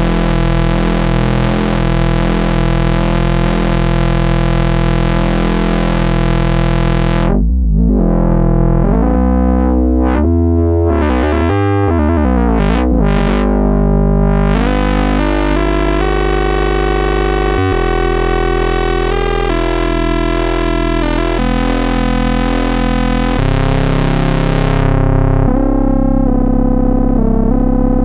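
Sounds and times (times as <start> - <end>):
synthesizer buzzy low note: 0.0 - 28.0.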